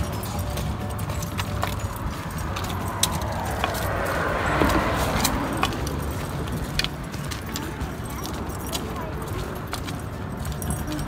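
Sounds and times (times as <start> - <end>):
vehicle passing: 0.0 - 10.8
dog collar jingling: 0.0 - 11.0
low traffic rumble: 0.0 - 11.0.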